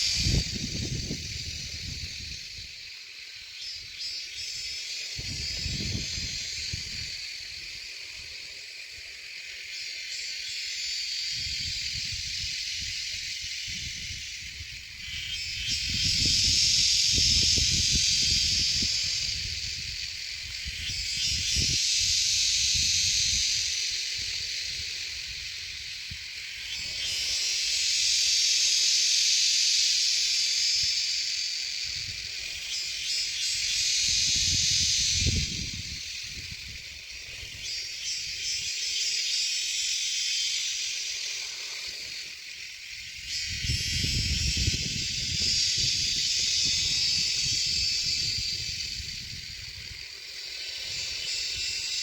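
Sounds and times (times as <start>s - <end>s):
nestlings begging hissing chorus: 0.0s - 52.0s.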